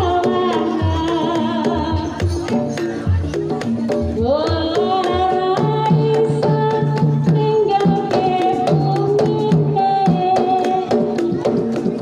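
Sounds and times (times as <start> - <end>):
woman singing into a microphone: 0.0 - 2.9, 4.0 - 11.6
hand drum strokes: 0.0 - 12.0.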